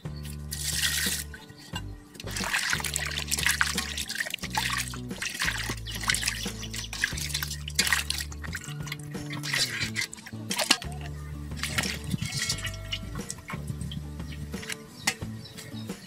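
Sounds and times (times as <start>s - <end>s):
background music with low bass: 0.0s - 16.0s
water sloshing in metal bowl: 0.2s - 16.0s.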